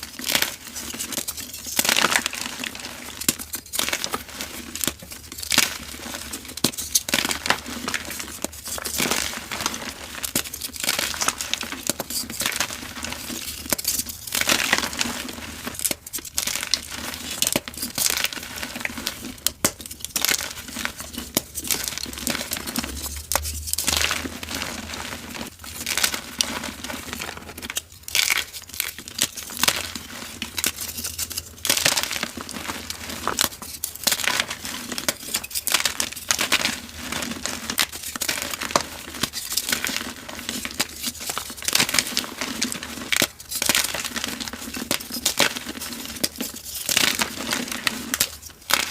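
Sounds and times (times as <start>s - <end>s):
chalk crunching and crackling: 0.0s - 48.9s.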